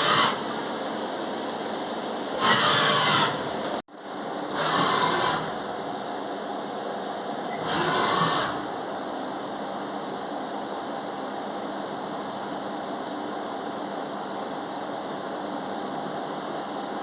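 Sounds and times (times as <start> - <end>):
machine mechanical hum: 0.0 - 17.0.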